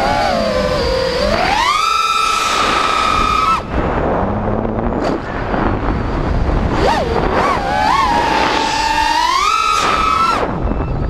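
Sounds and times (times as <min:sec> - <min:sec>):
drone motors whining: 0:00.0 - 0:11.0
rush of wind: 0:00.0 - 0:11.0.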